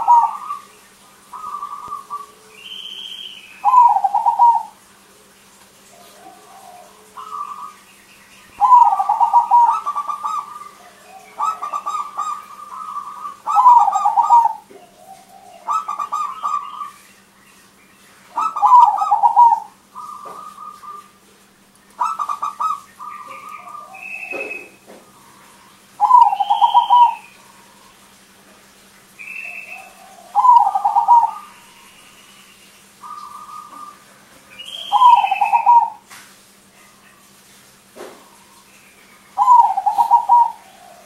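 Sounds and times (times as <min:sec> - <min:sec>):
dove cooing: 0:00.0 - 0:07.8, 0:08.6 - 0:17.0, 0:18.3 - 0:21.3, 0:22.0 - 0:28.0, 0:29.2 - 0:32.1, 0:33.0 - 0:36.1, 0:39.4 - 0:41.0.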